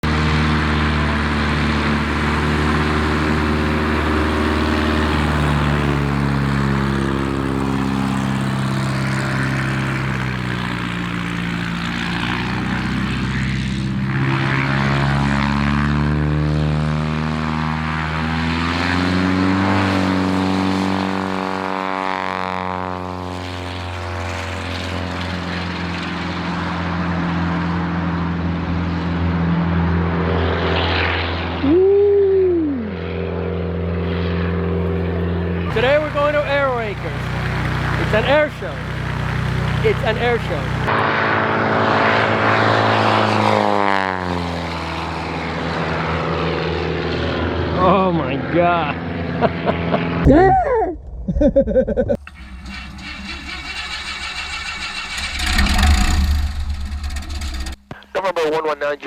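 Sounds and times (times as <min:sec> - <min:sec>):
propeller airplane engine: 0:00.0 - 0:59.0.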